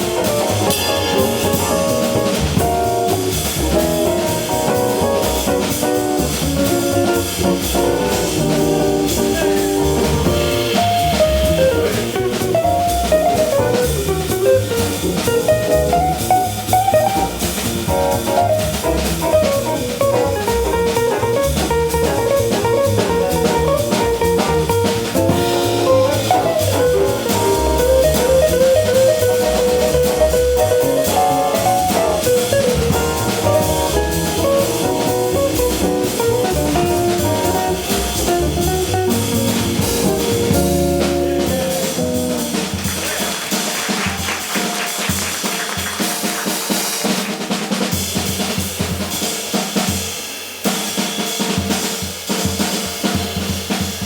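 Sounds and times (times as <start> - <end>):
walking bass: 0.0 - 43.3
drum kit with snare and cymbals: 0.0 - 54.0
jazz melody line: 0.0 - 54.0.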